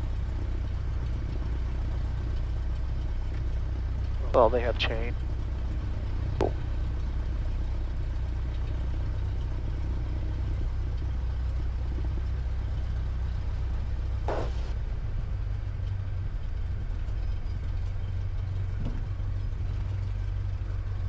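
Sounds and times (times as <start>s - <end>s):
small plane engine idling: 0.0s - 21.0s.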